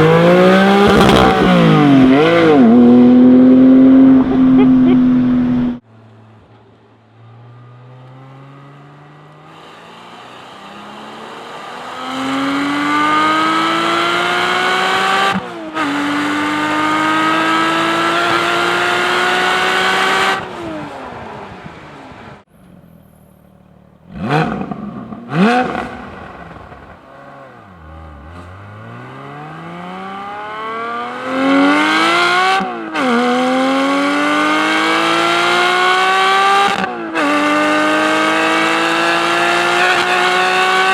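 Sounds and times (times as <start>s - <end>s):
car engine accelerating hard: 0.0s - 5.9s, 7.1s - 22.4s, 24.0s - 40.9s.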